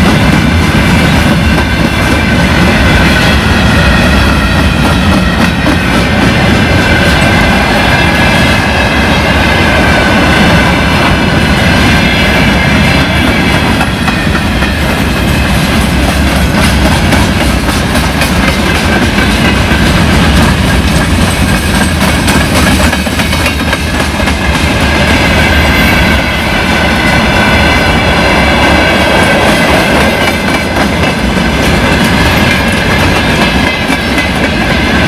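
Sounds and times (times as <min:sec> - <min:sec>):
train wheels clattering: 0:00.0 - 0:35.0.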